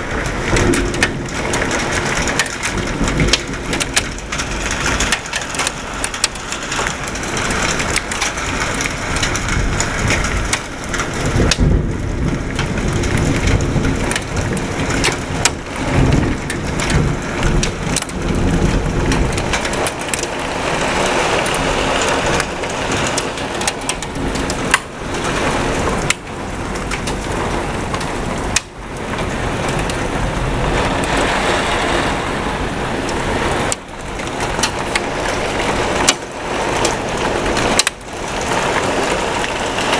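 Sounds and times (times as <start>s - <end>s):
sharp taps of raindrops: 0.0s - 32.0s, 32.6s - 39.9s
deep low rumble of thunder: 0.0s - 39.9s
heavy rain pouring: 0.0s - 39.9s.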